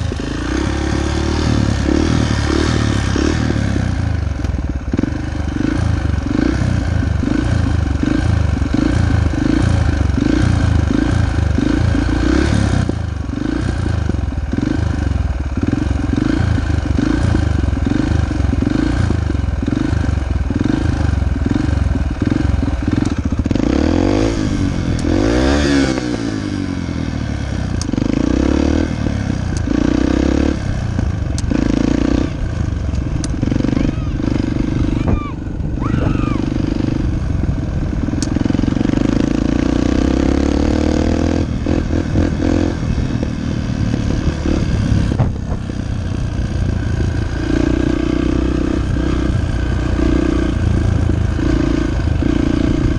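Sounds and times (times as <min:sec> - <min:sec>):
dirt bike engine running: 0:00.0 - 0:52.9.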